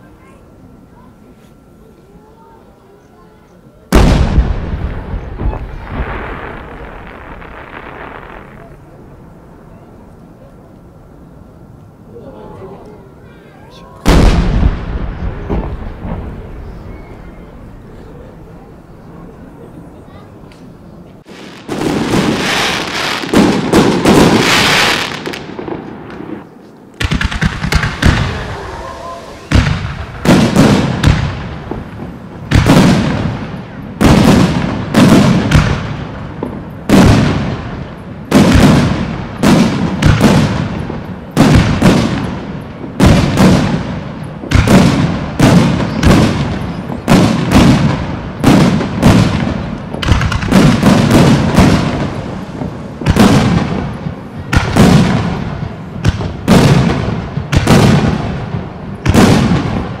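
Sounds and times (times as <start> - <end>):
fireworks booming with echo: 3.2 - 12.1, 13.6 - 60.0.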